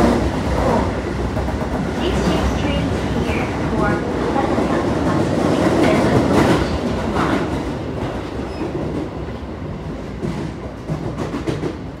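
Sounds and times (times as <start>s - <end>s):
rumble of train wheels on rail: 0.0s - 12.0s.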